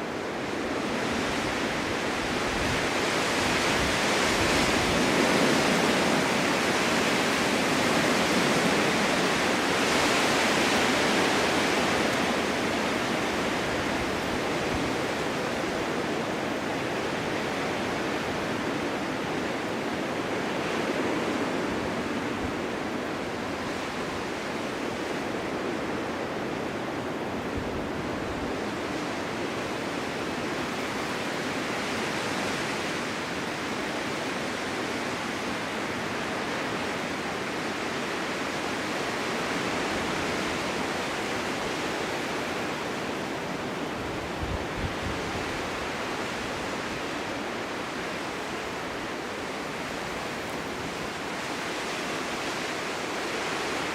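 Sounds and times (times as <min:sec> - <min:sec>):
snowstorm wind blowing: 0:00.0 - 0:53.9.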